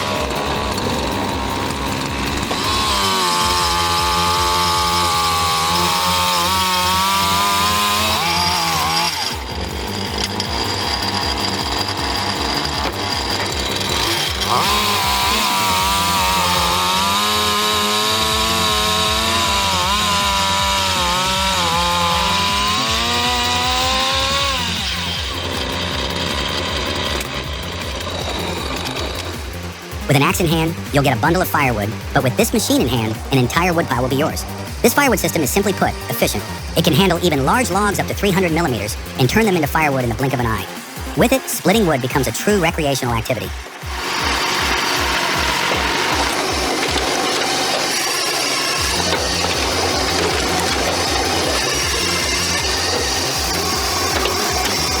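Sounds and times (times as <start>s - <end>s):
chainsaw cutting under load: 0.0s - 55.0s.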